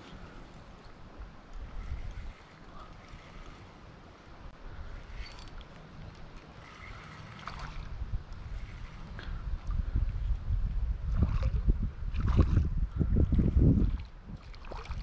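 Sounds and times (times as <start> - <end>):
wind buffeting microphone: 0.0 - 3.8, 4.4 - 15.0
stream water: 0.0 - 15.0.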